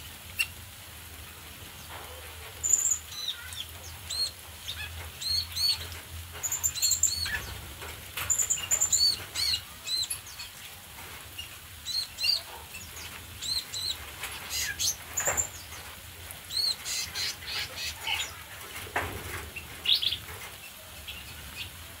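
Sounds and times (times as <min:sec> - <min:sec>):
small birds chirping: 0:01.7 - 0:07.6, 0:08.2 - 0:18.6, 0:19.3 - 0:22.0.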